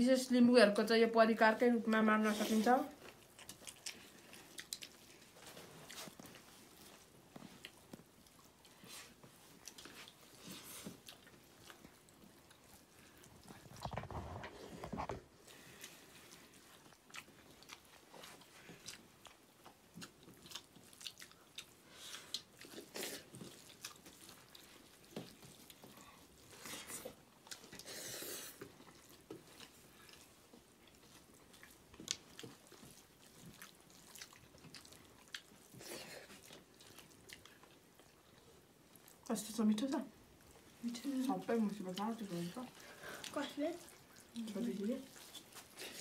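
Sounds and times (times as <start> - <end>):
faint chewing: 1.8 - 46.0.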